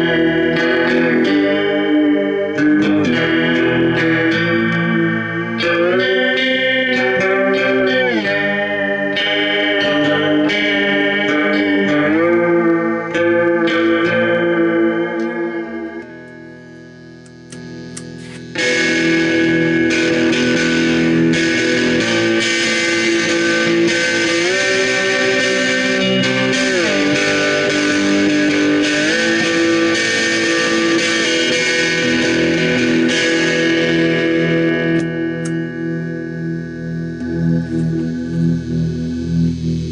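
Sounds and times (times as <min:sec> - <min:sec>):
electric guitar with effects: 0:00.0 - 0:39.9.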